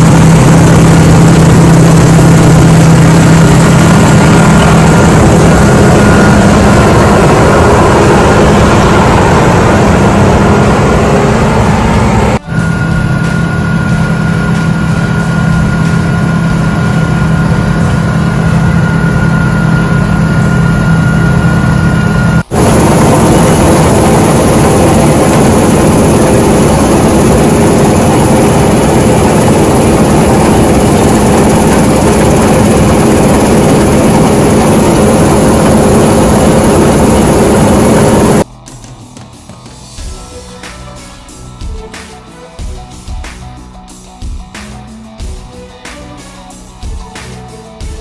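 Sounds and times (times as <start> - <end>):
diesel machinery engine running: 0.0 - 38.5
high whine: 0.0 - 38.6.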